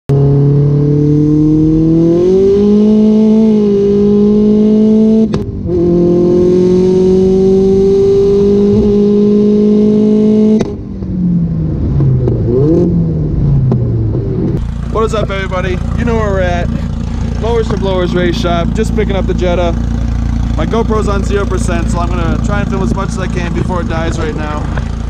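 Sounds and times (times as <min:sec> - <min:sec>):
car engine accelerating: 0:00.1 - 0:25.0.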